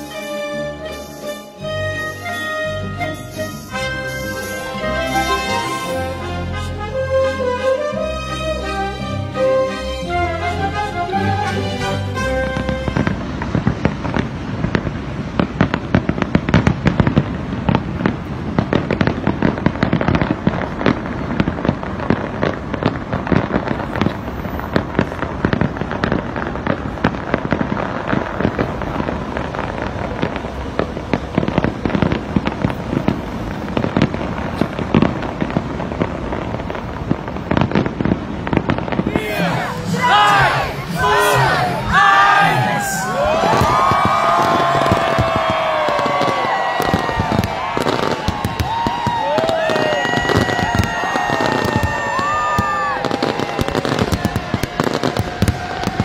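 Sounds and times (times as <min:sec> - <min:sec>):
fireworks bursting: 0:00.0 - 0:07.2, 0:11.7 - 0:56.0.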